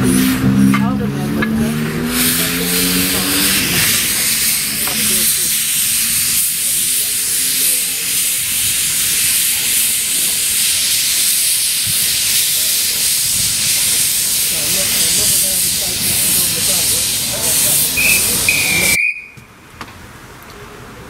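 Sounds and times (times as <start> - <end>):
steam hissing: 0.0 - 19.5.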